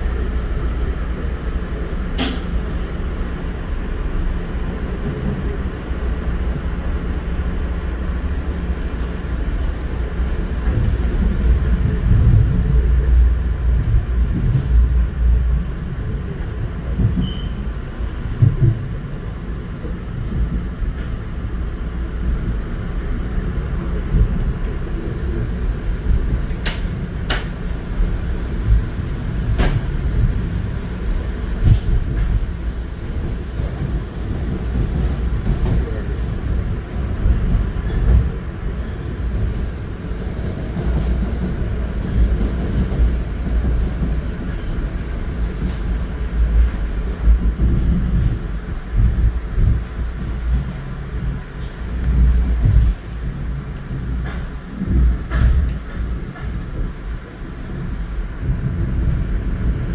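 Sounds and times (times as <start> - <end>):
train rumble from inside: 0.0 - 59.9.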